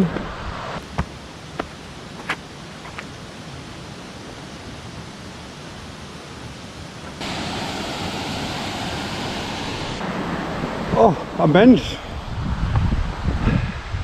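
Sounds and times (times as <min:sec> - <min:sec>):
river and waterfalls rushing: 0:01.2 - 0:12.4.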